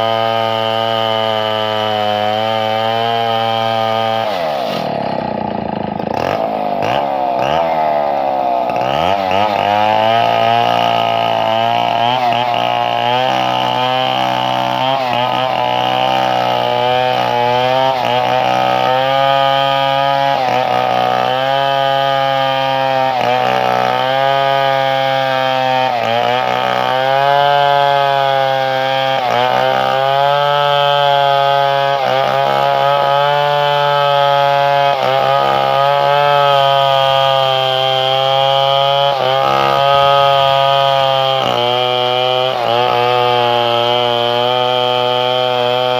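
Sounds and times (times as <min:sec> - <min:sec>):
chainsaw engine revving: 0:00.0 - 0:45.9.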